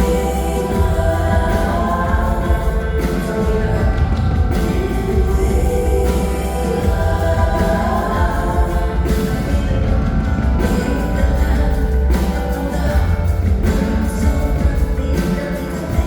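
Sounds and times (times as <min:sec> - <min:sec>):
band with heavy bass: 0:00.0 - 0:16.0.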